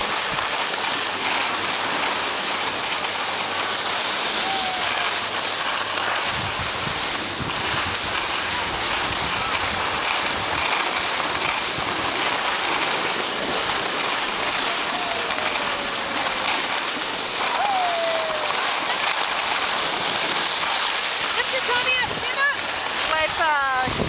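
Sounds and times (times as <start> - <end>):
skis scraping on snow: 0.0 - 24.0
wind buffeting microphone: 4.3 - 24.0.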